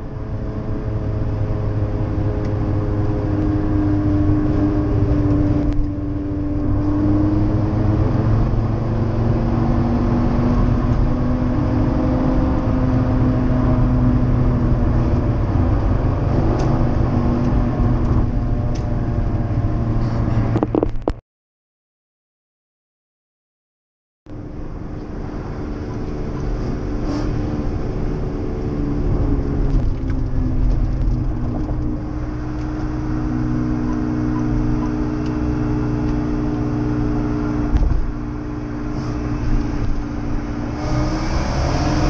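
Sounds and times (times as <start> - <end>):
car engine heard from cabin: 0.0 - 21.2, 24.3 - 42.0.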